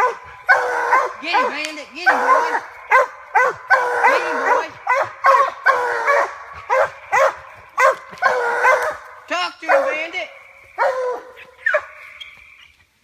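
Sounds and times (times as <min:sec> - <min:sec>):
hounds barking: 0:00.0 - 0:12.4.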